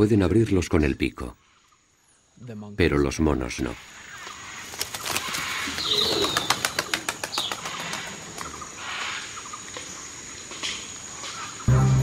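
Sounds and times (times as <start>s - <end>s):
soft hissing bird calls: 1.2s - 2.7s, 3.4s - 11.8s.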